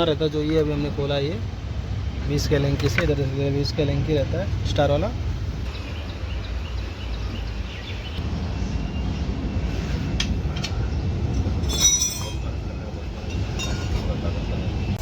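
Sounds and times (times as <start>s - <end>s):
workshop rumble: 0.0s - 15.0s.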